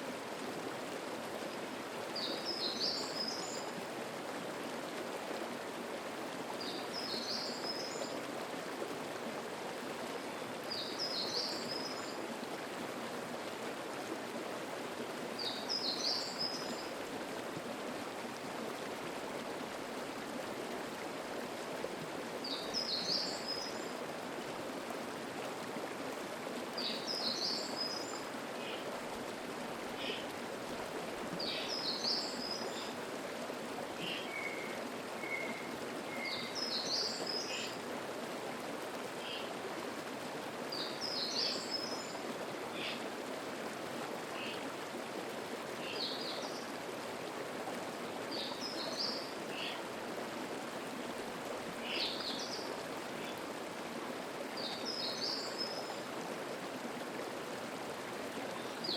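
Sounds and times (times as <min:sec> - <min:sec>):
stream murmuring over rocks: 0:00.0 - 0:58.9.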